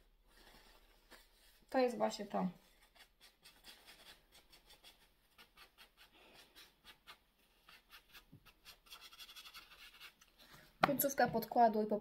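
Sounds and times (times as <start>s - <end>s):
scratchy makeup rubbing strokes: 0.5s - 10.3s.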